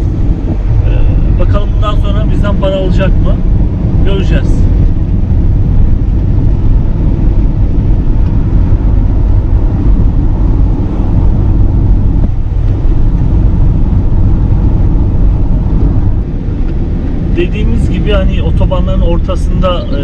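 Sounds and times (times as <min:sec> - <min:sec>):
engine noise: 0:00.0 - 0:20.0
wind noise: 0:00.0 - 0:20.0.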